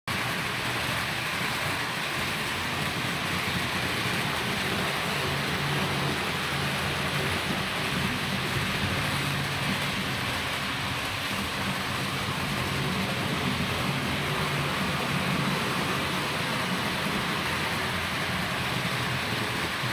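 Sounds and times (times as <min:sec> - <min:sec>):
model train wheels rolling: 0:00.1 - 0:19.9
low motor hum: 0:00.2 - 0:19.9.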